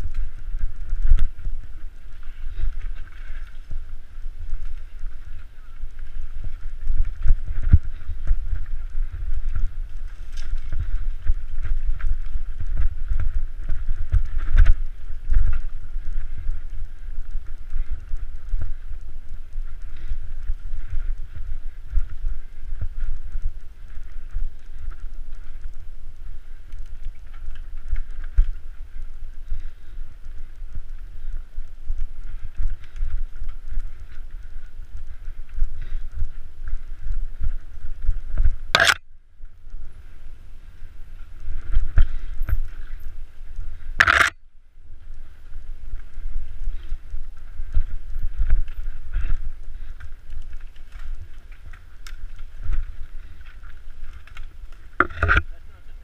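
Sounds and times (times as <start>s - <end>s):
bike rattling clicks: 0.0s - 44.4s, 45.0s - 55.6s
wind rumble on microphone: 0.0s - 56.0s.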